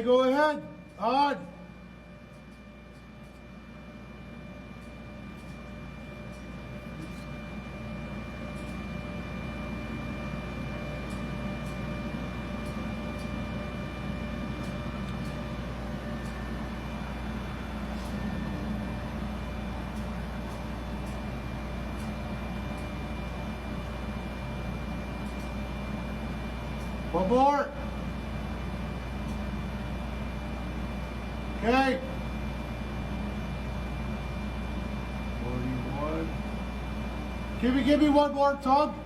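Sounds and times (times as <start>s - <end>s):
engine-room machinery drone: 0.0s - 39.0s.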